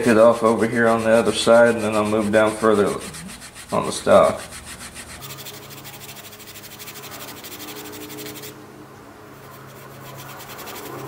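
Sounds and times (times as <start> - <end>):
steel wool scrubbing paint: 0.0 - 8.6, 9.4 - 11.0.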